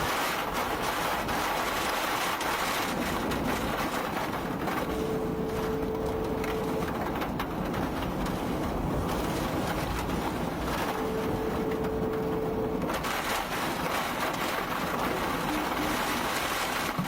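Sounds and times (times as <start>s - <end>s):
heavy rain on a car: 0.0s - 17.0s.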